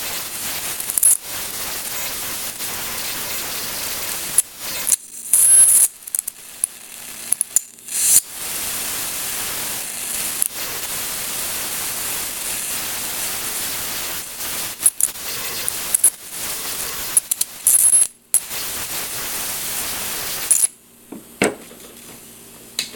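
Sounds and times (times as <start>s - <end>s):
electric arc hissing crackle: 0.0s - 20.8s
sharp electric snaps: 0.0s - 20.8s.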